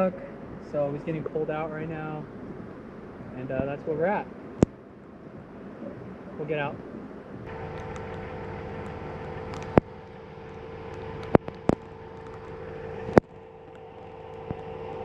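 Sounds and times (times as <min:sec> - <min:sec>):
vehicle running with whine: 0:00.0 - 0:15.0.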